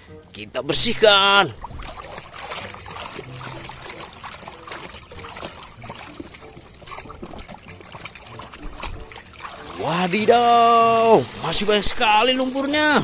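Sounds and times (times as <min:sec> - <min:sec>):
water trickling and splashing: 0:00.1 - 0:13.0.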